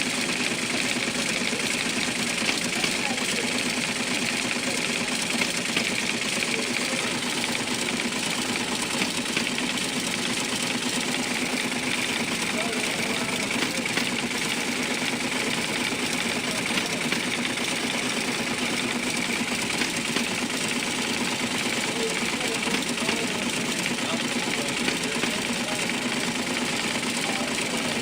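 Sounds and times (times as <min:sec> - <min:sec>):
adding machines clattering: 0:00.0 - 0:28.0
steady motor hum: 0:00.0 - 0:28.0.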